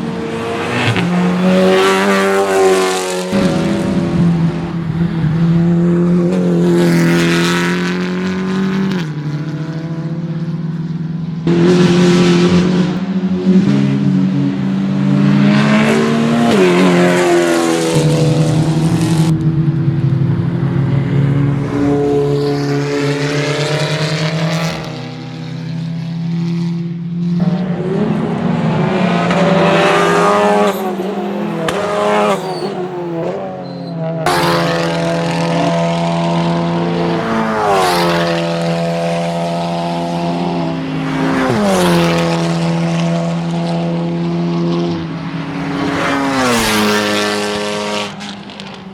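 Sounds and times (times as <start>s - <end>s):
race cars revving past: 0.0s - 48.9s.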